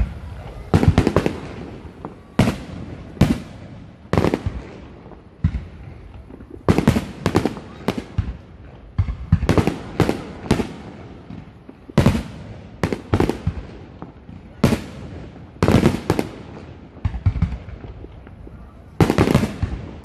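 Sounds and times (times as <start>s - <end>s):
fireworks bangs with echo: 0.0s - 20.0s.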